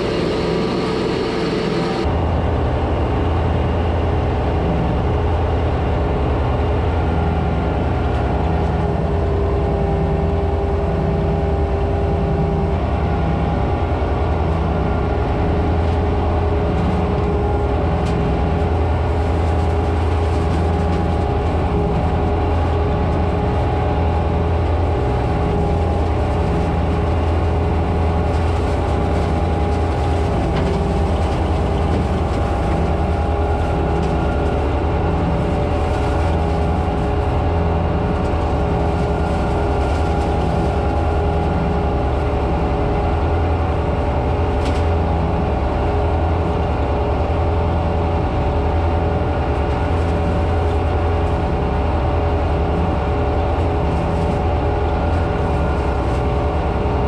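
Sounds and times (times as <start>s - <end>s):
steady machine whine: 0.0s - 57.0s
tractor diesel engine under load: 0.0s - 57.0s.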